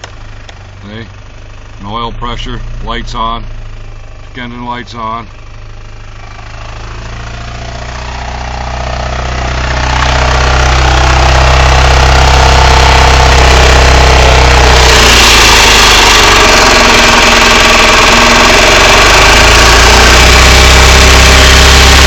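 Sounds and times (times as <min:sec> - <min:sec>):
car engine running and rattling: 0:00.0 - 0:22.0.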